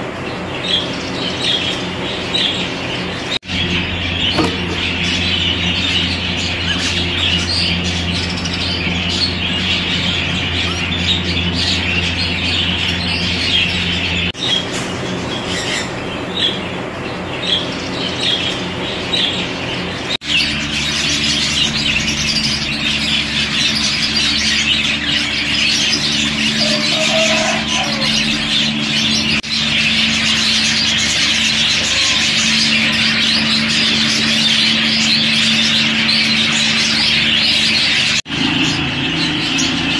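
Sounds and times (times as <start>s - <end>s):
steady low hum: 0.0s - 39.9s
budgerigars chattering and chirping: 0.2s - 39.9s.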